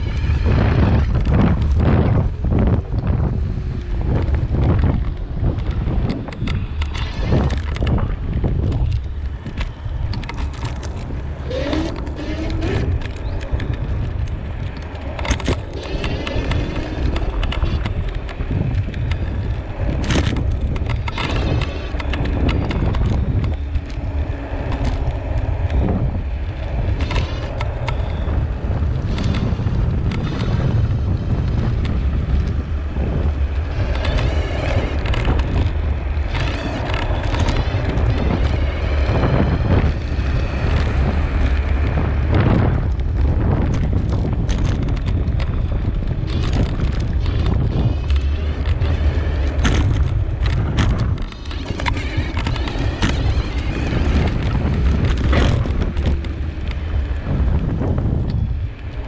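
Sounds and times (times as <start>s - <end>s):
wind over microphone: 0.0s - 59.0s.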